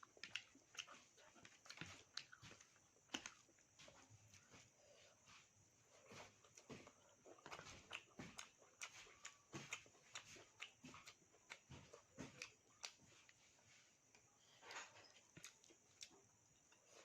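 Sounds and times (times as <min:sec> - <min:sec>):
person chewing and lip-smacking: 0:00.0 - 0:14.3, 0:15.0 - 0:17.0.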